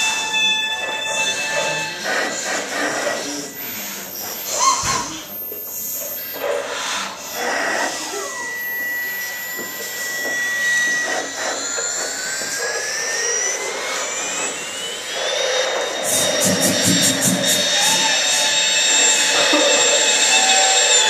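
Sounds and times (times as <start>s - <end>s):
high whistling tone: 0.0s - 21.0s
rapid pulsing chatter: 0.0s - 21.0s.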